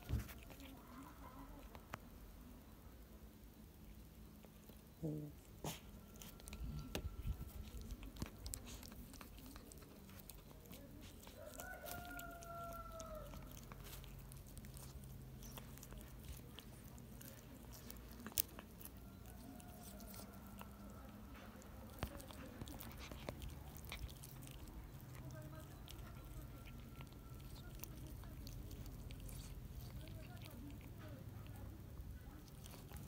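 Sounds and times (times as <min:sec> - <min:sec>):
cat chewing and crunching: 0:00.0 - 0:33.0.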